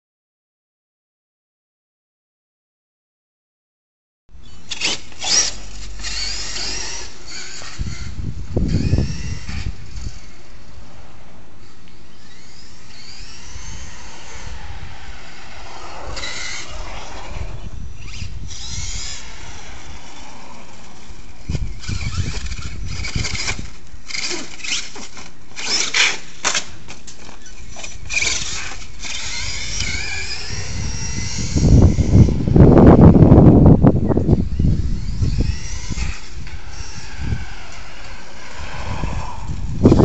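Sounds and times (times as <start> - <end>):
electric motor whining: 4.4 - 40.0.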